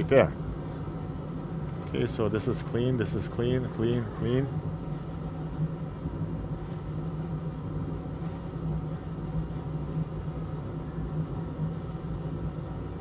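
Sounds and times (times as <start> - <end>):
faint rumble: 0.0 - 13.0
low machine hum: 0.0 - 13.0.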